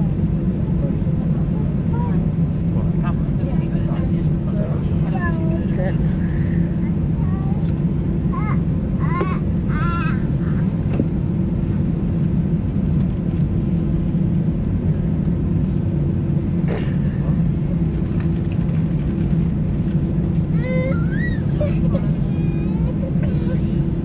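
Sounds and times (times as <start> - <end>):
jet engines droning in cabin: 0.0 - 24.0.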